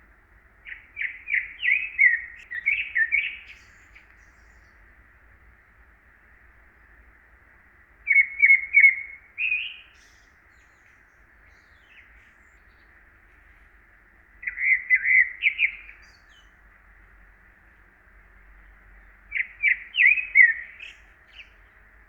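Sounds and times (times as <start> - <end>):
songbird chirping: 0.0 - 6.4, 7.7 - 22.0
faint background hiss: 0.0 - 22.0.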